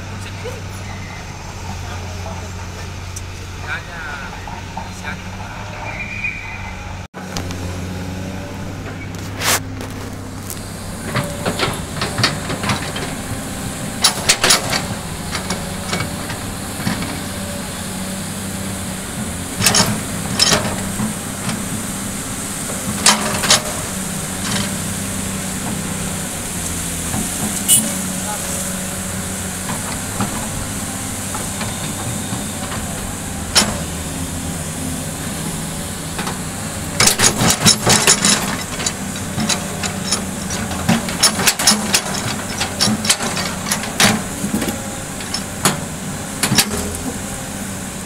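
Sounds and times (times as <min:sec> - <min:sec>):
excavator diesel engine running: 0:00.0 - 0:48.0
bucket clanking and scraping: 0:08.8 - 0:48.0.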